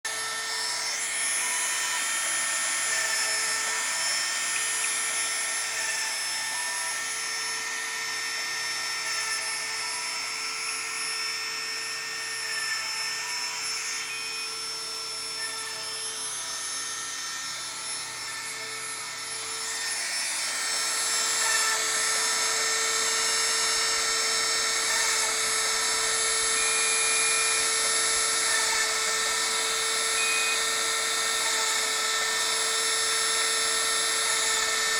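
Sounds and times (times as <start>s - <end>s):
rotary tool drilling whine: 0.0s - 34.9s.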